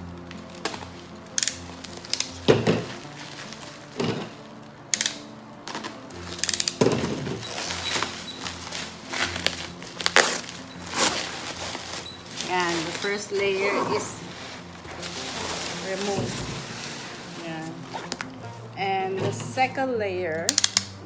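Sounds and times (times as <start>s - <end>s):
bubble wrap crinkling: 0.0s - 18.8s
soft background music: 0.0s - 21.0s.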